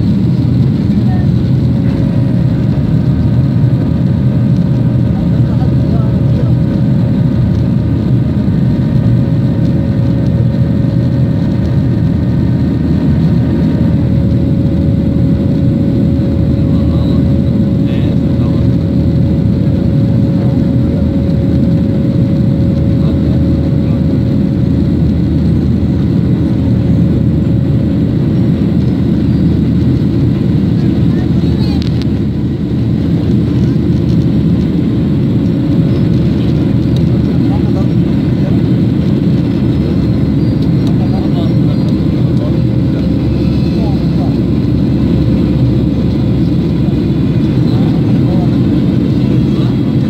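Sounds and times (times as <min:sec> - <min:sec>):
jet engine rumble and airflow: 0:00.0 - 0:50.0
steady hum: 0:00.0 - 0:50.0.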